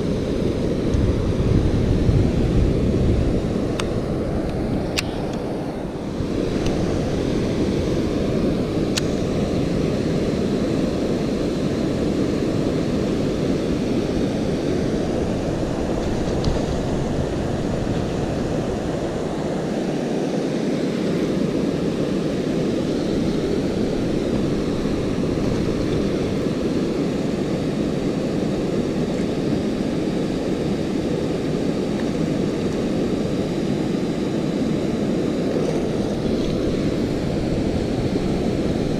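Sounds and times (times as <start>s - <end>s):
wind: 0.0s - 38.9s
river water flowing: 4.2s - 38.9s.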